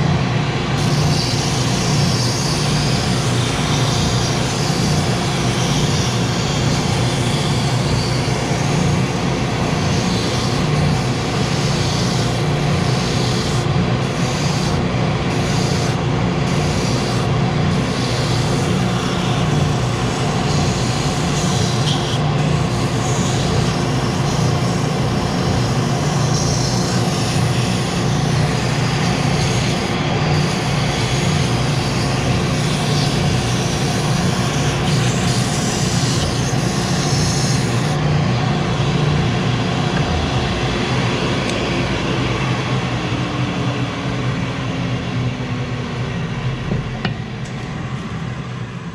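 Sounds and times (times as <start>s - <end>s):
wood sanding: 0.0s - 41.6s
spindle sander running: 0.0s - 47.7s
vacuum running: 0.0s - 48.9s.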